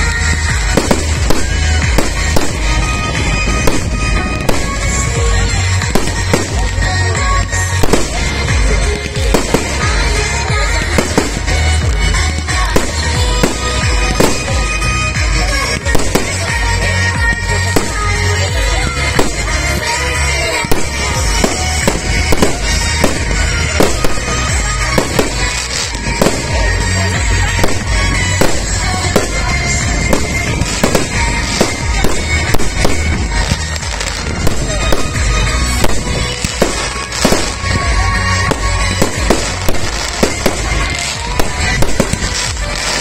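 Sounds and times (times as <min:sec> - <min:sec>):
music: 0:00.0 - 0:43.0.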